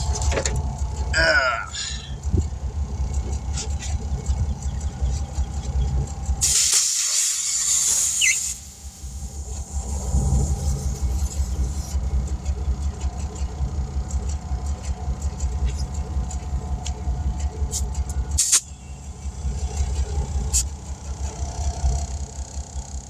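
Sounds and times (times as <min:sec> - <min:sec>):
air compressor chugging: 0:00.0 - 0:23.0.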